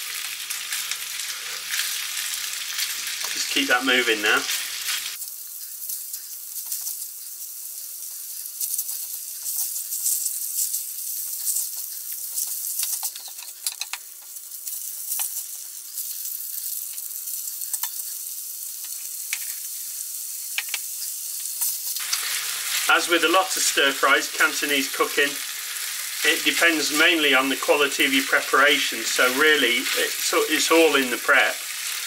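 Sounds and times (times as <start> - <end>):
meat sizzling in oil: 0.0 - 32.0.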